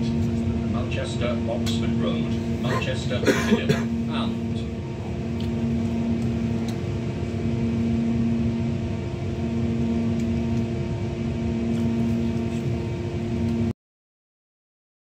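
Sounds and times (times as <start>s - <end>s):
train rumble and hum: 0.0s - 13.7s.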